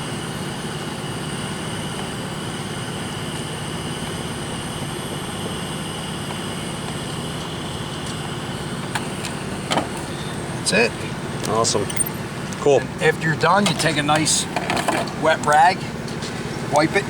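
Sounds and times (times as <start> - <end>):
machine drone with high whine: 0.0 - 17.0.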